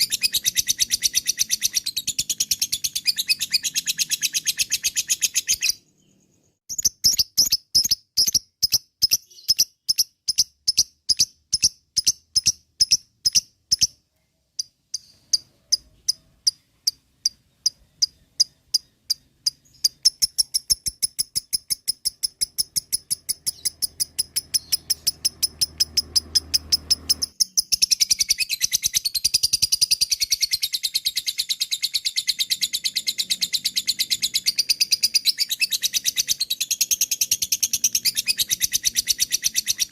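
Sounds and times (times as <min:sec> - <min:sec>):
lovebird chirping and chattering: 0:00.0 - 0:39.9.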